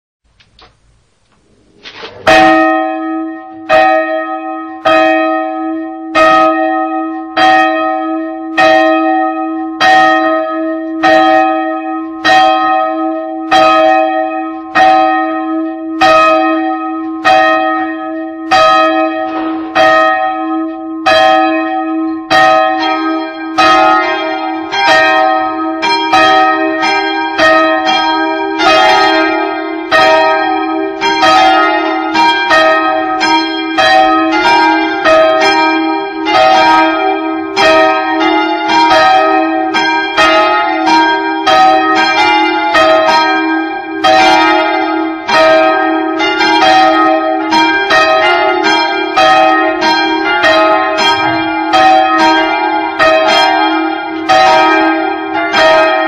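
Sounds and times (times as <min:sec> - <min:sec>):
church bell tolling: 0:02.2 - 0:56.0
higher bell tolling: 0:02.2 - 0:56.0.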